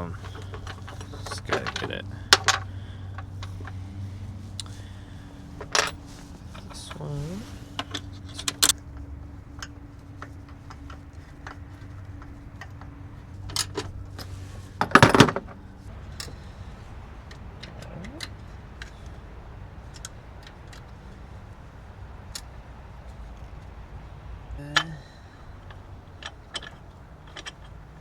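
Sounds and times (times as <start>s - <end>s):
clatter of knocks: 0.0s - 7.0s, 7.6s - 28.0s
tools and metal parts clinking: 0.0s - 28.0s.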